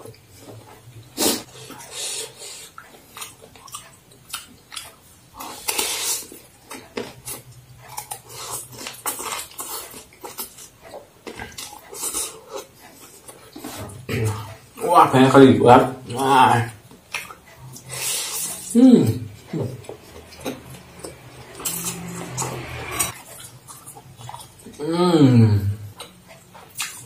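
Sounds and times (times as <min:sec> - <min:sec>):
chewing and slurping: 0:00.0 - 0:14.8, 0:16.7 - 0:24.8, 0:25.8 - 0:27.0.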